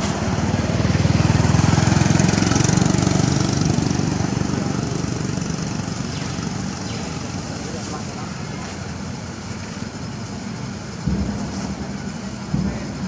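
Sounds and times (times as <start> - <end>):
small engine chugging past: 0.0 - 13.0.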